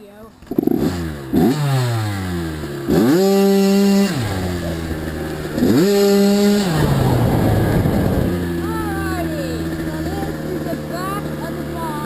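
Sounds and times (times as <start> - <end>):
dirt bike engine revving: 0.3 - 12.0.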